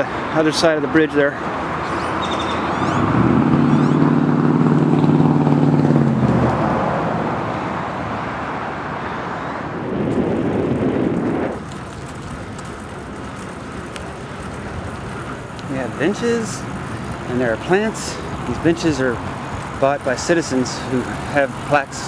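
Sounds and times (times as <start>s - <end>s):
tyre noise of passing vehicle: 0.0s - 22.0s
vehicle engine hum: 0.0s - 22.0s.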